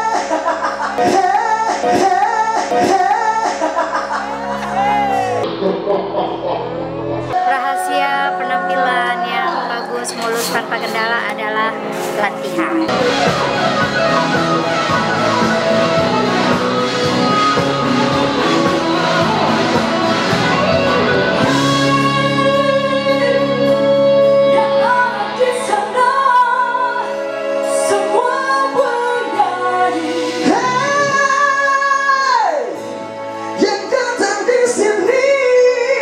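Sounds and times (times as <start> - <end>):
rock band playing: 0.0 - 35.6.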